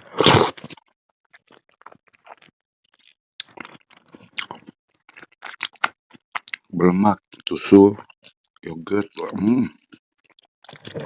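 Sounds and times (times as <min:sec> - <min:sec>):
person chewing food: 0:00.0 - 0:06.7, 0:07.3 - 0:11.0.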